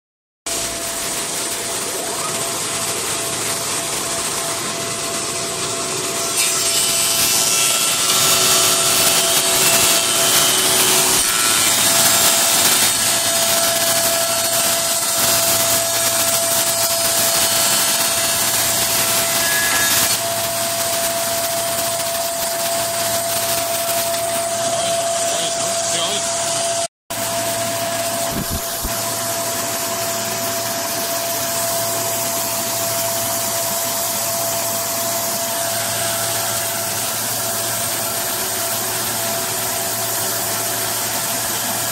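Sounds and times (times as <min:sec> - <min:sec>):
wood planer whining: 0:01.1 - 0:41.9.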